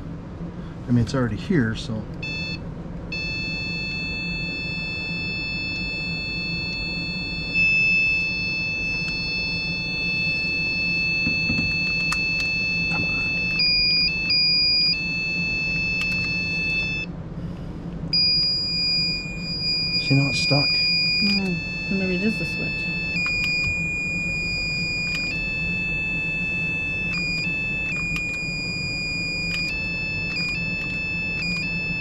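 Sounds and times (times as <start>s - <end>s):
circuit tester electronic tone: 2.2s - 17.1s, 18.1s - 32.0s.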